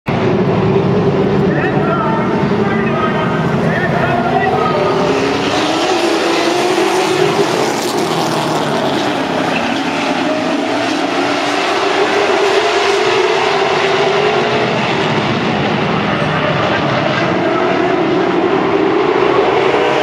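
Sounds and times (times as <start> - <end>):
race car engines droning: 0.1 - 20.0.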